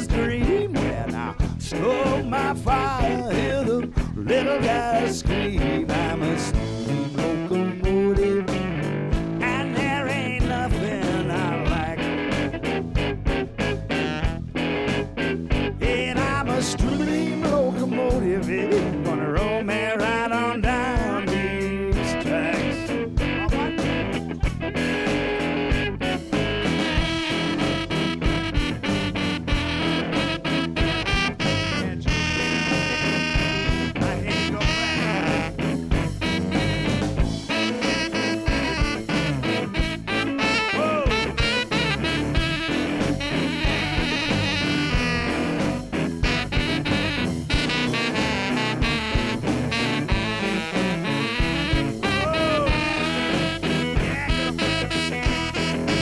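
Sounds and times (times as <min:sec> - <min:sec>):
blues band playing: 0:00.0 - 0:56.0.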